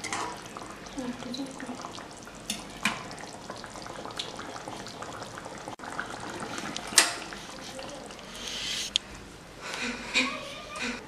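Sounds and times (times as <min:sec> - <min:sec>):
curry bubbling and sizzling: 0:00.0 - 0:09.0.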